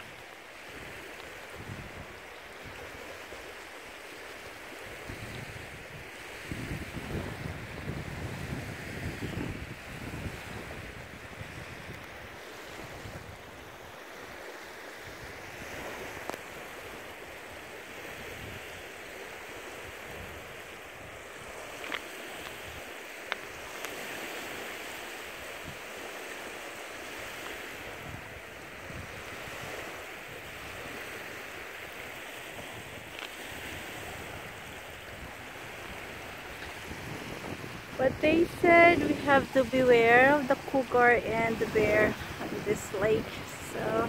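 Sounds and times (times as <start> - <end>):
waves lapping on pebble shore: 0.0 - 44.0.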